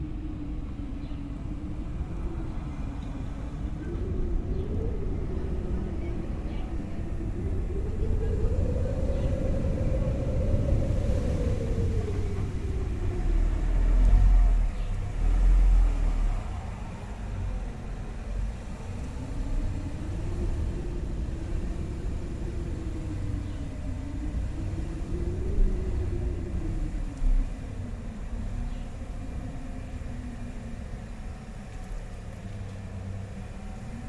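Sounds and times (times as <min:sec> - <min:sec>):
moaning wind tone: 0:00.0 - 0:34.0
wind blowing through forest: 0:00.0 - 0:34.0.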